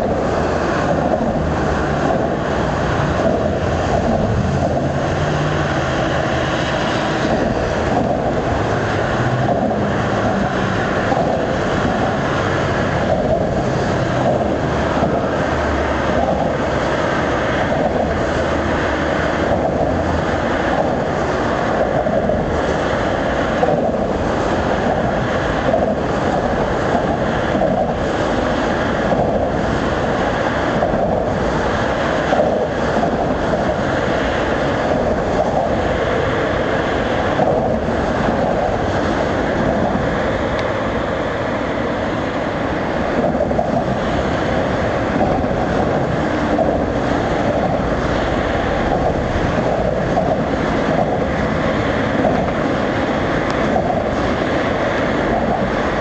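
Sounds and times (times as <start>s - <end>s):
wind: 0.0s - 56.0s.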